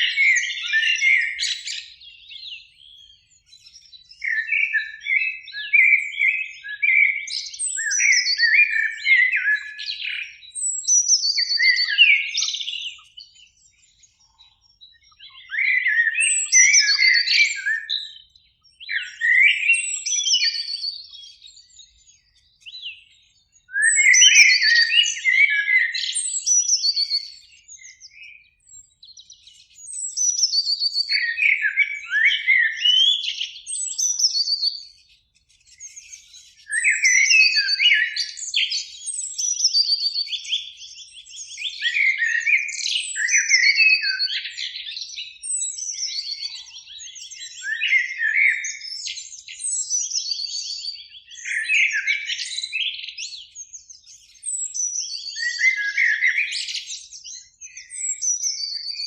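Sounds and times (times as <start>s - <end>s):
blackbird singing: 0.0s - 59.0s.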